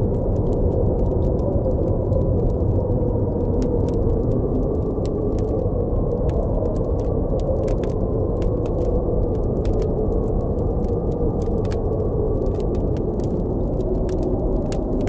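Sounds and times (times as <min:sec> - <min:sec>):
blizzard wind blowing: 0:00.0 - 0:15.0
campfire crackling and popping: 0:00.0 - 0:15.0.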